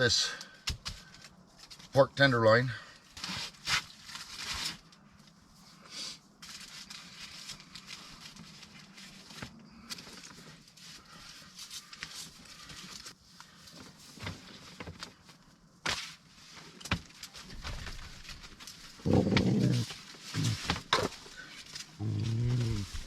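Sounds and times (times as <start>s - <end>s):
rustling and crinkling: 0.8s - 2.0s, 3.1s - 23.0s.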